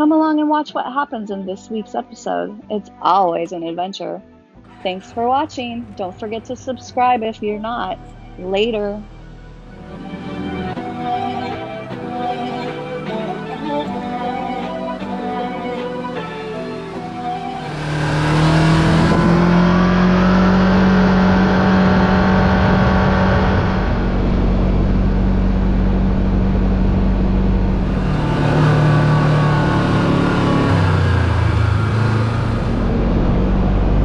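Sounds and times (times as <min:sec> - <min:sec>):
utility vehicle engine revving: 0:04.6 - 0:34.0.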